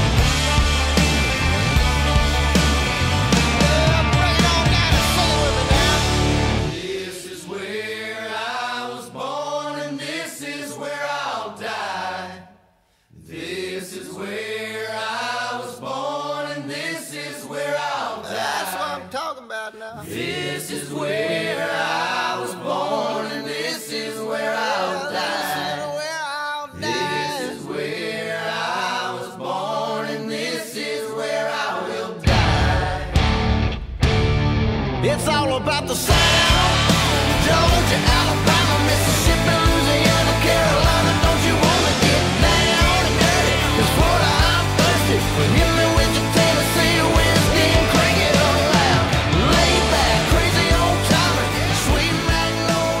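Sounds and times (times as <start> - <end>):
voices singing in harmony: 3.0 - 33.4, 35.4 - 53.0.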